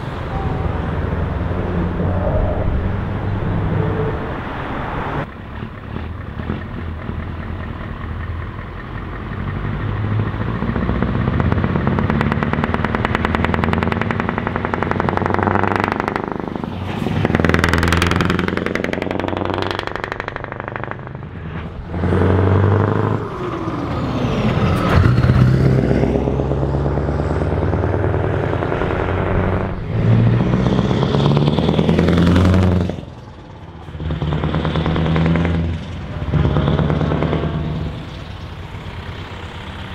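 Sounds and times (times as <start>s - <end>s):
diesel trucks pulling away: 0.0s - 39.9s.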